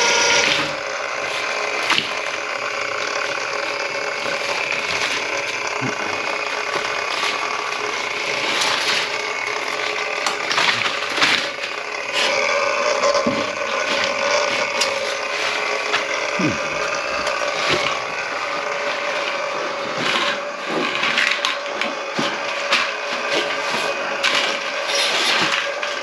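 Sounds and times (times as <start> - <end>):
cable clattering and ratcheting: 0.0 - 26.0
drain-cleaning machine running: 0.0 - 26.0.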